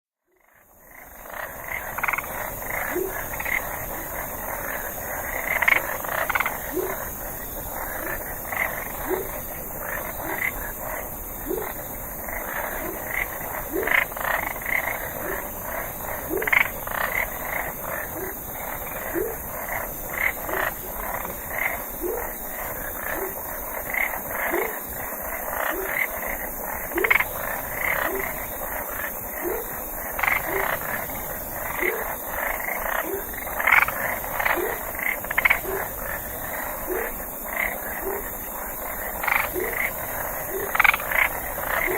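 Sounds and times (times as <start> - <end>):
frogs croaking: 0.2 - 41.9.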